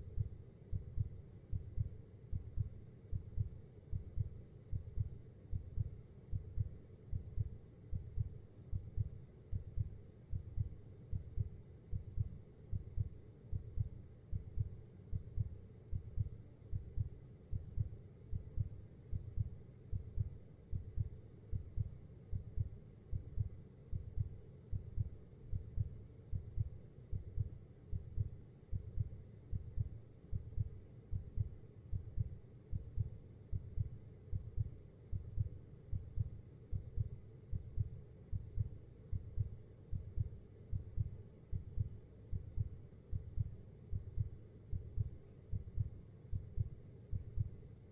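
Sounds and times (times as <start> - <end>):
heartbeat thuds: 0.1 - 47.6.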